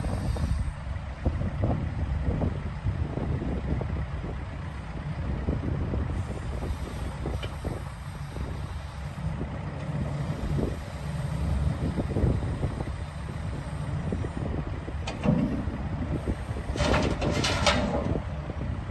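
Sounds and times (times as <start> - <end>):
excavator diesel engine rumbling: 0.0 - 18.9.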